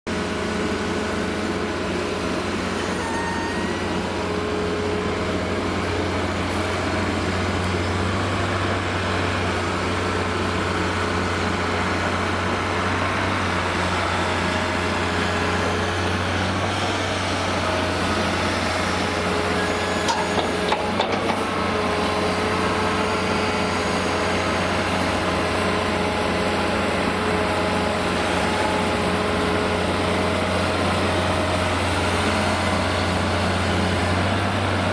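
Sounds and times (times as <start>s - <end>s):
truck diesel engines running: 0.1s - 3.0s, 3.6s - 34.9s.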